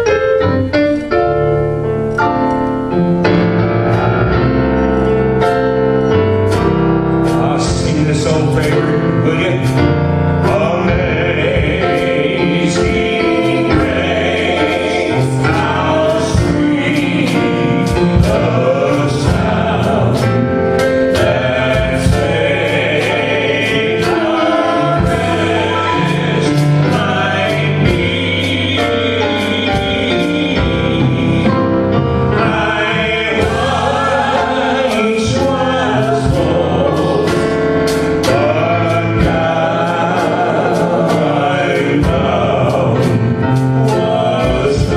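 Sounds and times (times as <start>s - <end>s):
piano accompaniment: 0.0s - 44.9s
group singing a gospel hymn: 3.4s - 44.9s.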